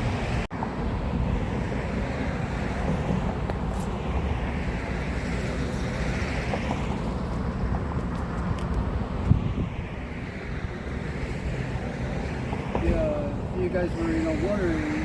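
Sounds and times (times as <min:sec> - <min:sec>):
street traffic noise: 0:00.0 - 0:15.0
vehicle passing: 0:00.0 - 0:15.0
wind rumbling on microphone: 0:00.0 - 0:15.0.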